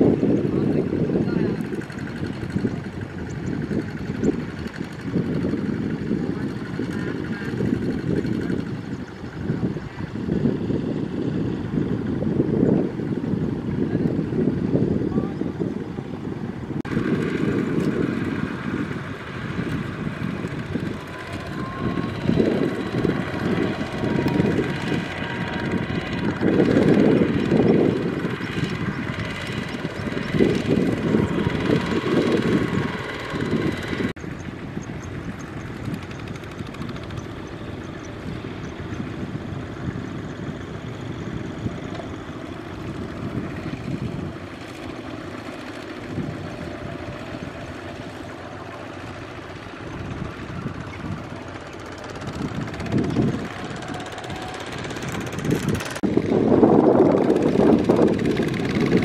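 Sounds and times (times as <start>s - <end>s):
diesel tractor engines running: 0.0s - 59.0s.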